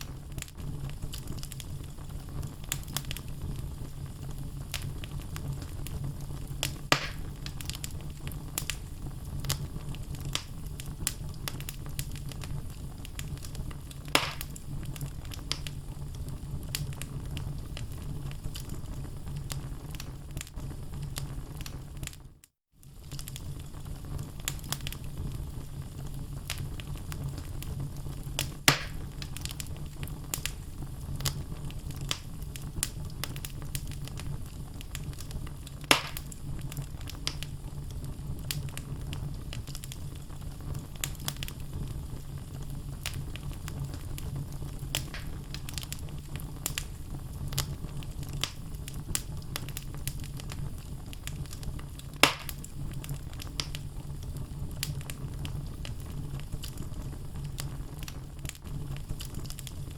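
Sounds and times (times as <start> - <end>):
loud fire pops: 0.0 - 22.2, 22.8 - 59.9
low rumble of flames: 0.0 - 59.9
wood fire crackling: 0.0 - 59.9.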